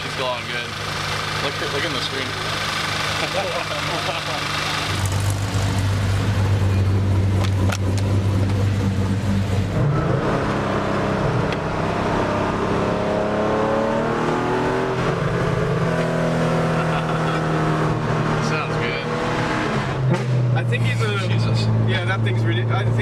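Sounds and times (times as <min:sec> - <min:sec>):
sports car engine accelerating: 0:00.0 - 0:23.0.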